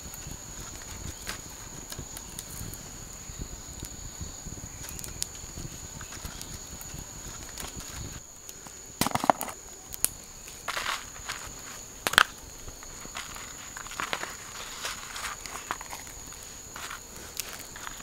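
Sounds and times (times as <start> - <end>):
insects droning: 0.0 - 18.0
rustling of sticks and leaves: 0.0 - 18.0.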